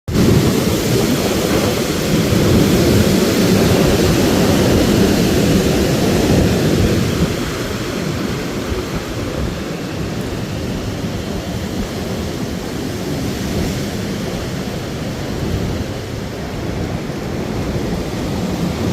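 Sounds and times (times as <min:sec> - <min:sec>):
strong wind: 0:00.1 - 0:18.9
thunder rumble: 0:00.1 - 0:18.9.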